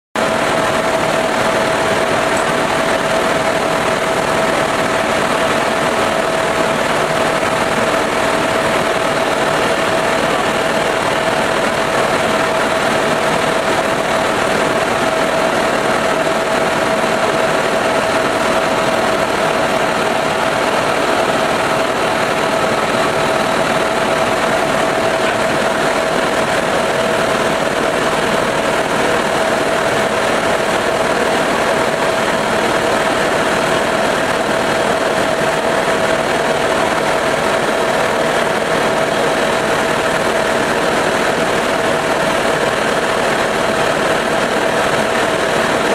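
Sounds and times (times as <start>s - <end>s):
helicopter engine and rotors drone: 0.2s - 45.9s.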